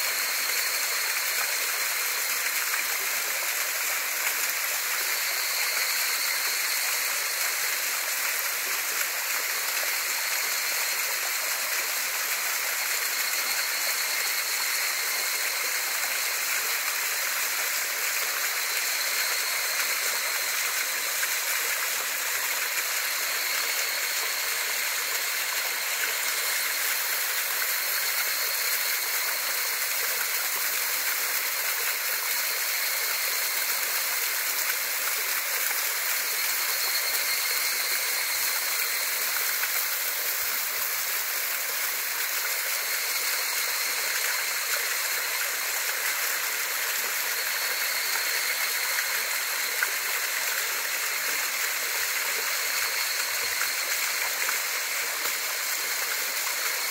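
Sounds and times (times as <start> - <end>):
small waterfall splashing: 0.0 - 56.9.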